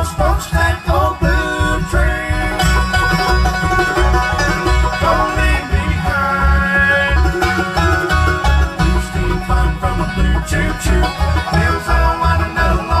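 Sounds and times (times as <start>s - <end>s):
acoustic guitar: 0.0s - 13.0s
banjo rolls: 0.0s - 13.0s
fiddle: 0.0s - 13.0s
mandolin: 0.0s - 13.0s
steady low beat: 0.0s - 13.0s.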